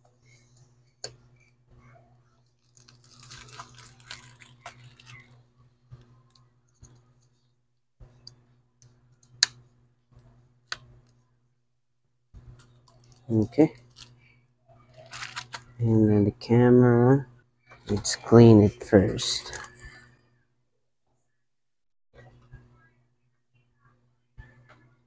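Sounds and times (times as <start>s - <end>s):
steady low hum: 0.0s - 21.5s.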